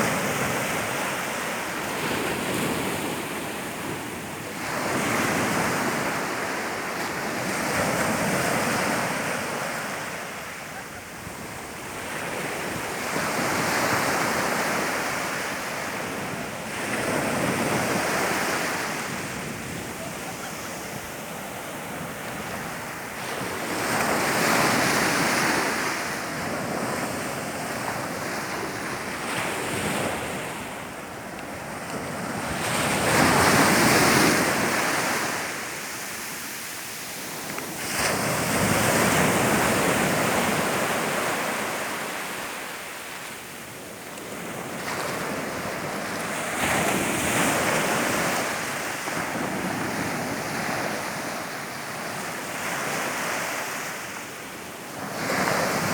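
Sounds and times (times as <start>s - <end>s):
waves breaking on beach: 0.0s - 55.9s.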